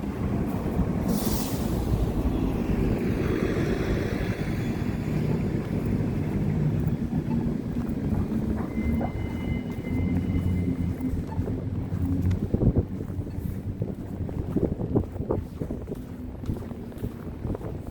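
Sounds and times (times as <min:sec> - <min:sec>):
vehicle passing: 0:00.0 - 0:15.0
low rumble of street traffic: 0:00.0 - 0:17.9.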